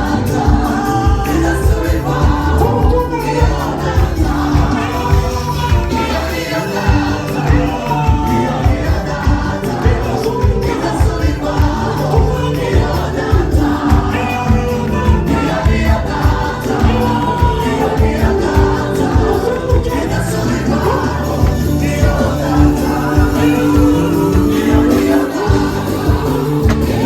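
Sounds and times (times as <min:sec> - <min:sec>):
choir singing in harmony: 0:00.0 - 0:27.0
instrumental backing with beat: 0:00.0 - 0:27.0.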